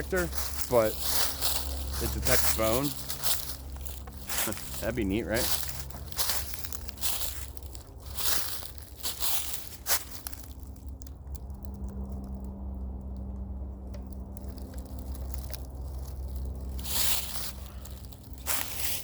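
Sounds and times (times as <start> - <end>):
footsteps crunching through dry leaves: 0.0 - 12.4, 13.2 - 19.0.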